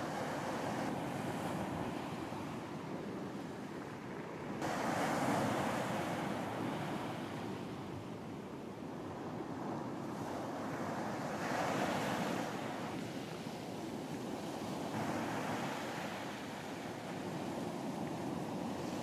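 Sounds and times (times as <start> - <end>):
sea waves washing onto beach: 0.0 - 19.0.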